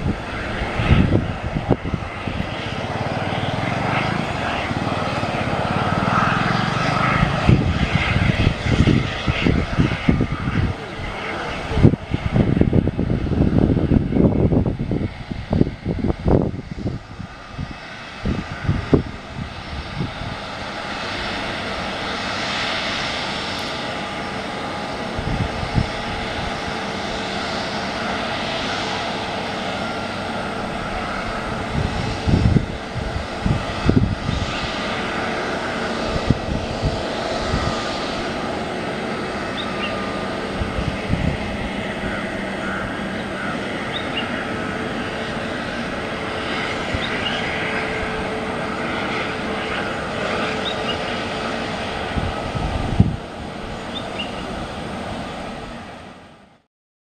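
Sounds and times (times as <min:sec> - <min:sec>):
low buffeting rumbles: 0:00.0 - 0:50.5, 0:51.2 - 0:56.0
jet engines roaring: 0:00.0 - 0:56.7.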